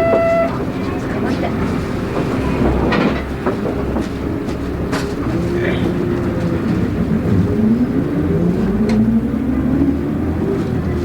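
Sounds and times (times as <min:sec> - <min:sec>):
bus engine running: 0:00.0 - 0:11.0.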